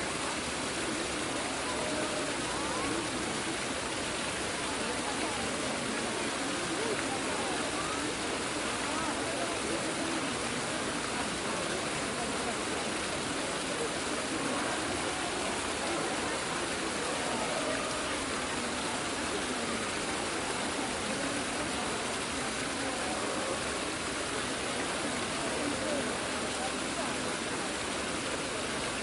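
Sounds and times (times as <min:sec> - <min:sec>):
crowd murmur: 0:00.0 - 0:29.0.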